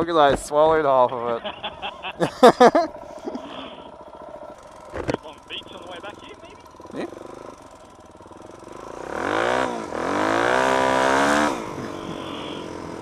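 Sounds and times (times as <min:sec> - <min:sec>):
dirt bike engine revving: 0:01.4 - 0:13.0.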